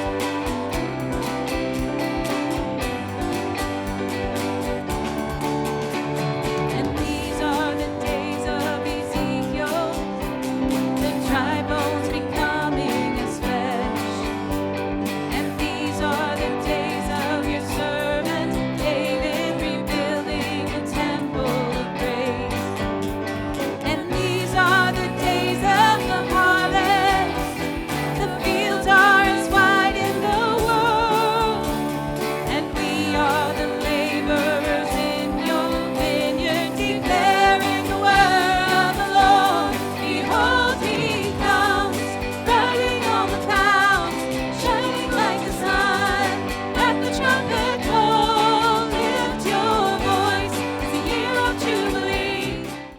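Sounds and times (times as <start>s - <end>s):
instrumental accompaniment: 0.0s - 52.9s
person singing with vibrato: 0.0s - 52.9s.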